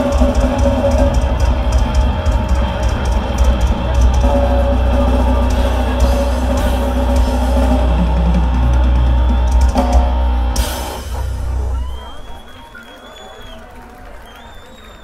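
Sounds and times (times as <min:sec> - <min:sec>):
cymbal crash: 0:00.0 - 0:12.4
metal band playing live: 0:00.0 - 0:12.5.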